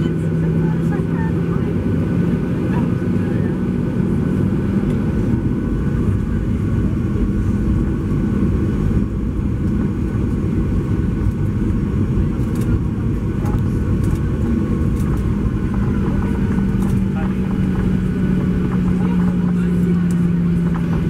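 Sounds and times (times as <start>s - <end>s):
jet engine rumble and airflow: 0.0s - 21.0s.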